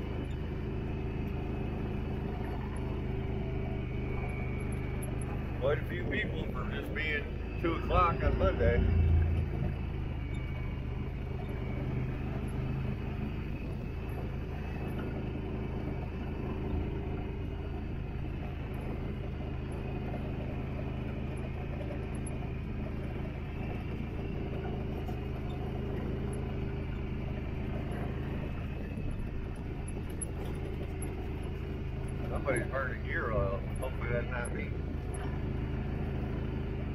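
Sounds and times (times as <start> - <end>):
vehicle engine running steadily: 0.0 - 36.9.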